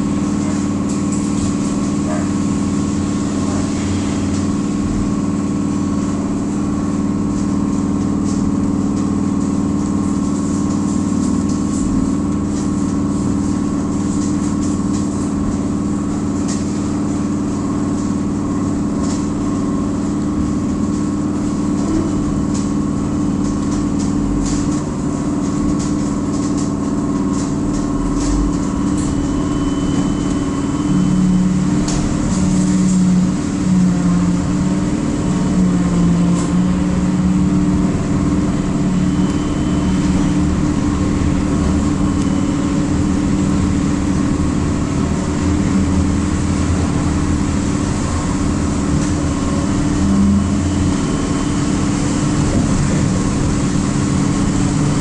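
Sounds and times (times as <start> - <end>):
trolleybus hum: 0.0 - 55.0.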